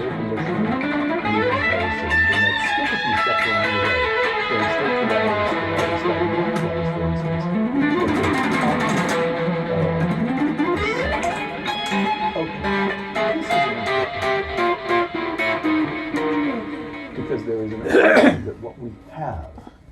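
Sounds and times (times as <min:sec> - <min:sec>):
solo guitar lead line: 0:00.0 - 0:19.4.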